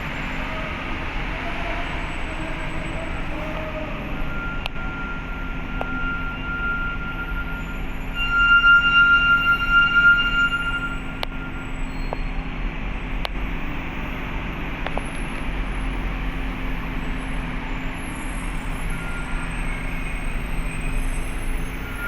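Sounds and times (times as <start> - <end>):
diesel engines droning: 0.0 - 22.0.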